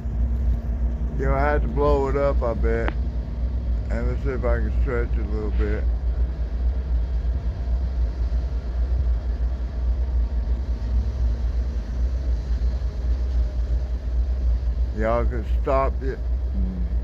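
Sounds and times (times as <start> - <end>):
diesel locomotive idling: 0.0 - 17.0.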